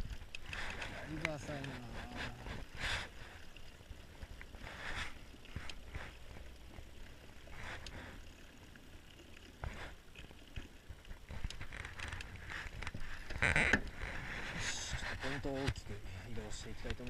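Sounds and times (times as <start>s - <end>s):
electric trolling motor hum: 0.0s - 14.6s
water rushing: 0.0s - 17.0s.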